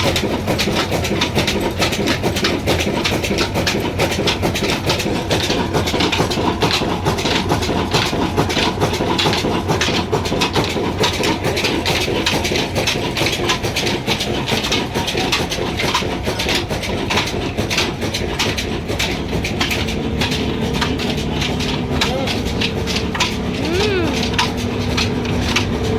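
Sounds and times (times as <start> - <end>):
diesel engine clattering: 0.0 - 25.9.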